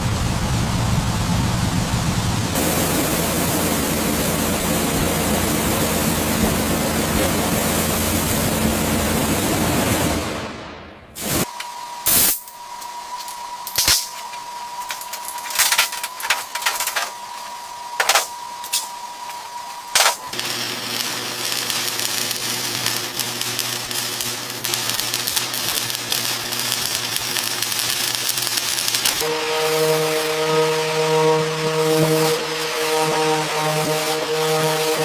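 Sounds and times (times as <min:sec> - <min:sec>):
loud steady hiss: 0:00.0 - 0:15.0, 0:17.2 - 0:35.0.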